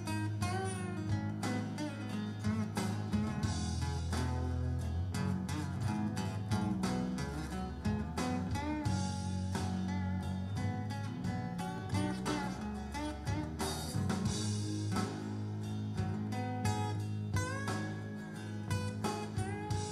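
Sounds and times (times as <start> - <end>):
guitar music over loudspeakers: 0.0 - 19.9.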